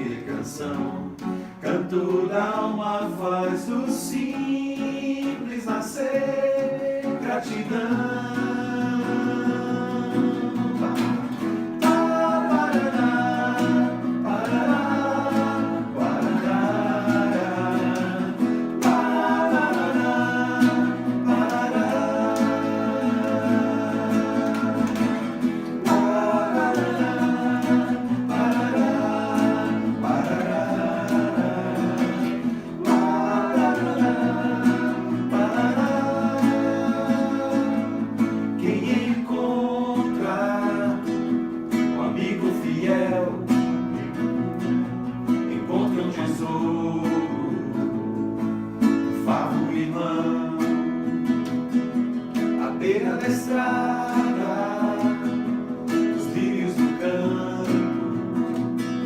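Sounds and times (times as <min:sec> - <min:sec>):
acoustic guitar chords: 0:00.0 - 0:59.0
voices singing: 0:00.0 - 0:59.0.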